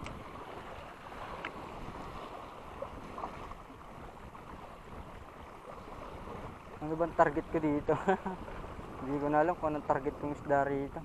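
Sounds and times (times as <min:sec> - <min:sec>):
small waves lapping on sand: 0:00.0 - 0:11.0.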